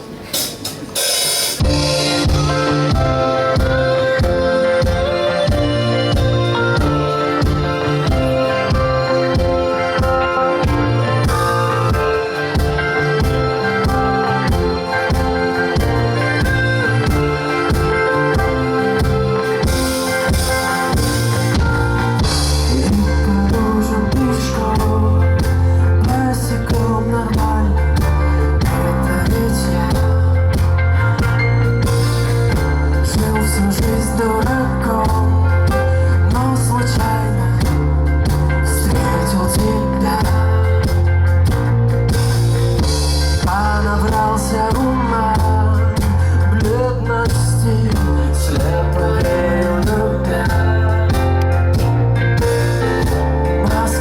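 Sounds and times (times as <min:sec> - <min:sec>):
drum beats: 0:00.0 - 0:54.0
guitar: 0:00.0 - 0:54.0
live rock band playing: 0:00.0 - 0:54.0
person singing: 0:01.6 - 0:41.1, 0:43.2 - 0:54.0
bass line: 0:01.6 - 0:54.0.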